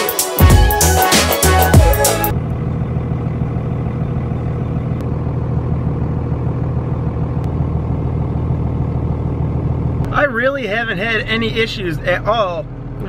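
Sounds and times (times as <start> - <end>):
diesel engine idling: 1.8 - 13.0.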